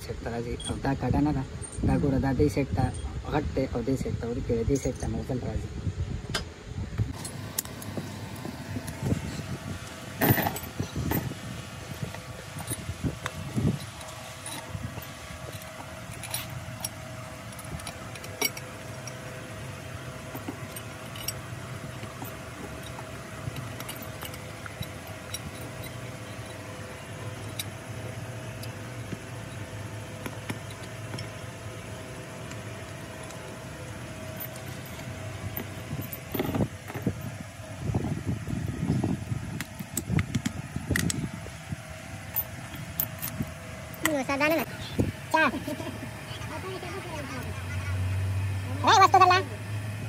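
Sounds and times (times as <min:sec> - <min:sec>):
machine hum: 0:05.6 - 0:50.0.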